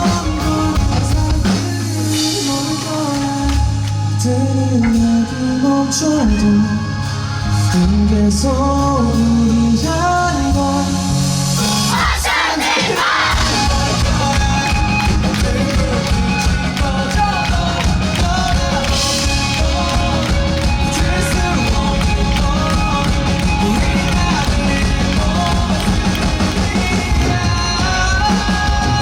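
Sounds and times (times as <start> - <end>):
drums driving a beat: 0.0 - 29.0
rock band playing live: 0.0 - 29.0.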